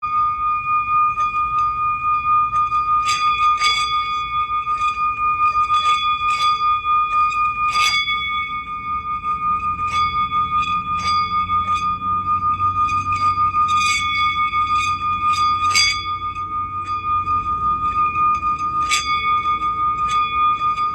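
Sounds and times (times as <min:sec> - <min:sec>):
bell-like ringing tone: 0:00.0 - 0:20.9
chime strikes: 0:00.0 - 0:20.9.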